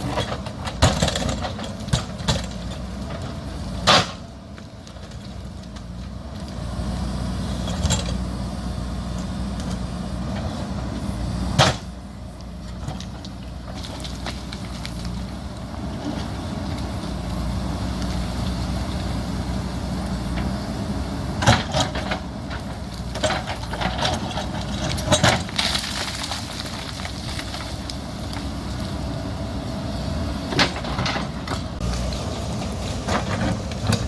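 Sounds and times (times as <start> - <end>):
backhoe diesel engine running: 0.0 - 34.0.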